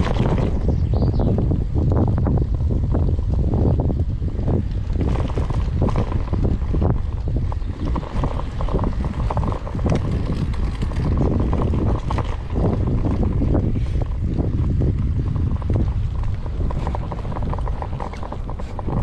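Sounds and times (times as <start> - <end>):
bike knocks and rattles: 0.0 - 19.0
wind buffeting microphone: 0.0 - 19.0.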